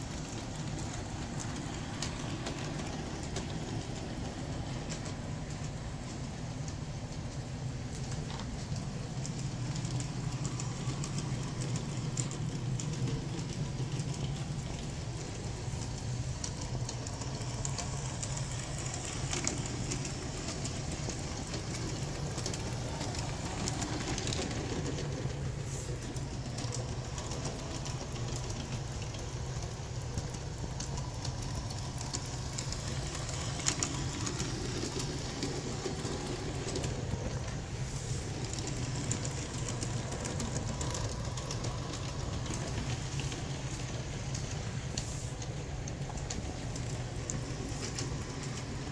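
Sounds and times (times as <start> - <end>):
model train motor drone: 0.0 - 48.9
wheels clicking on rails: 0.0 - 48.9.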